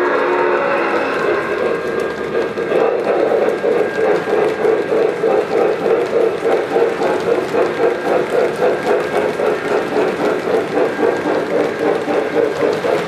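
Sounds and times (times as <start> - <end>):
model train running rhythmically: 0.0 - 13.0.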